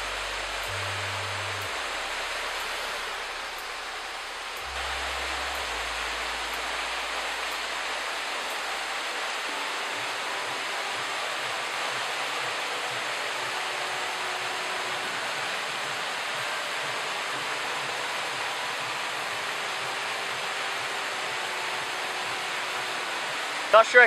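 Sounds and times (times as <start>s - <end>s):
rain: 0.0s - 24.0s
waterfall rushing: 0.0s - 24.0s.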